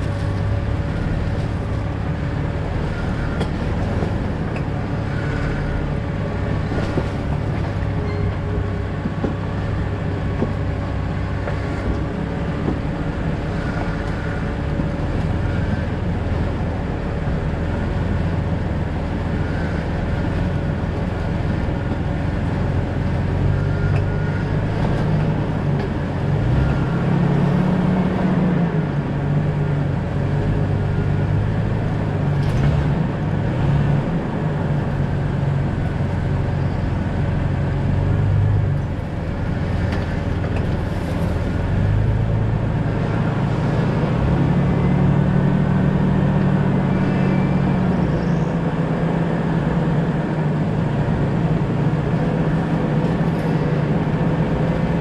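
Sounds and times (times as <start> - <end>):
car engine running: 0.0 - 55.0
tyres rumbling on road: 0.0 - 55.0.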